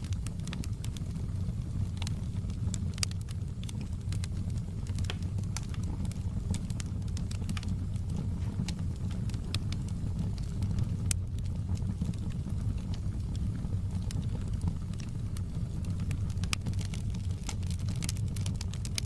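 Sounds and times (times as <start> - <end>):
low rumble of flames: 0.0 - 19.0
wood fire crackling and popping: 0.0 - 19.0.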